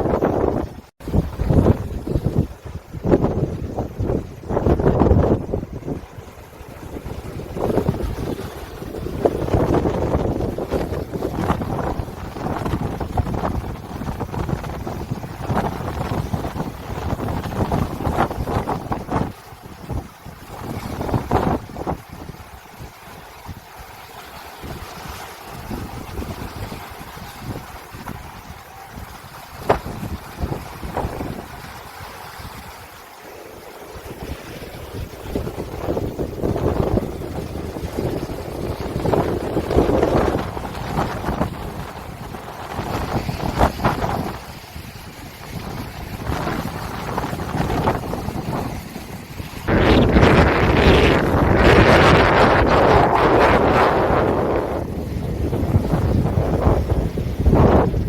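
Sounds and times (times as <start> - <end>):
strong wind over sea: 0.0 - 58.0
wind buffeting microphone: 0.0 - 58.0.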